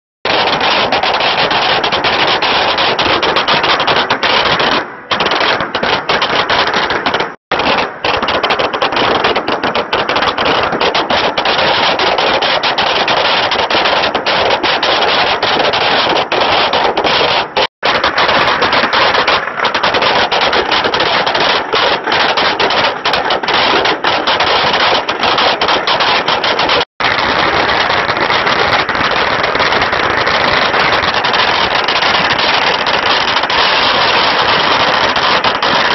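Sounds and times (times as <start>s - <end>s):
firecrackers crackling: 0.2s - 35.9s.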